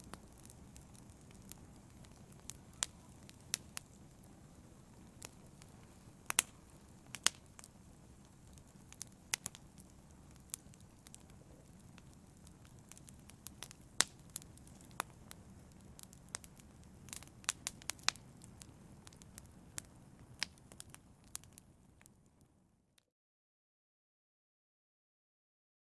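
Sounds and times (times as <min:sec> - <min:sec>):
fire crackling in fireplace: 0:00.0 - 0:22.8.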